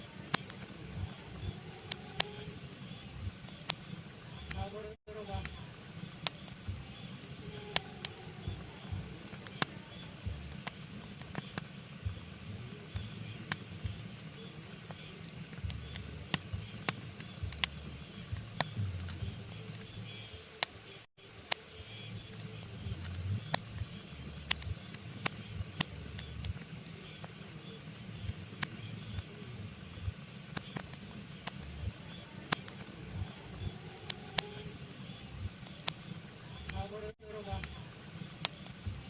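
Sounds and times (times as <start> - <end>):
logs crackling and popping in fire: 0.0 - 20.8, 21.4 - 39.0
fire hissing and rumbling: 0.0 - 39.0.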